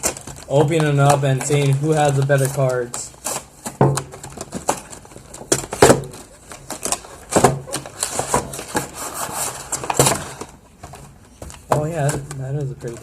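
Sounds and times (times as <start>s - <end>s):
wrapper and cardboard rustling: 0.0s - 13.0s.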